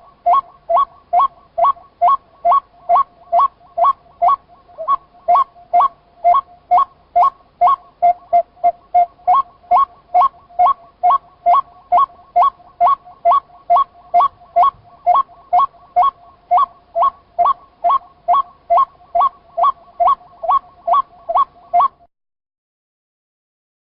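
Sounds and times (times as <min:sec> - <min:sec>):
waterhen calling: 0:00.0 - 0:22.1.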